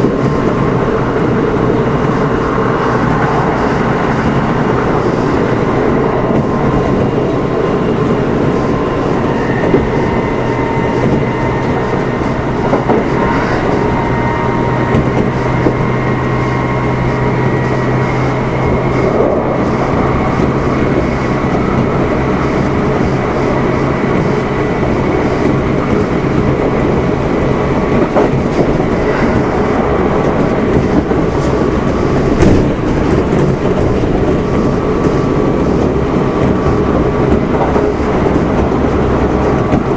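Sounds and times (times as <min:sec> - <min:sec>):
rail joint clicks: 0:00.0 - 0:39.9
wheel-on-rail rumble: 0:00.0 - 0:39.9.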